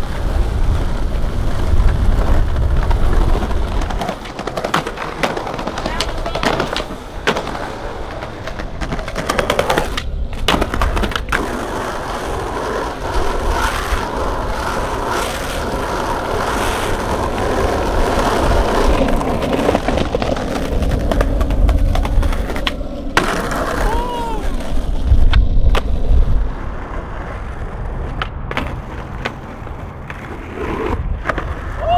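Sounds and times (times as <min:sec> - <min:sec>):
skateboard clacks: 0:00.0 - 0:31.9
skateboard wheels rolling on asphalt: 0:00.0 - 0:31.9.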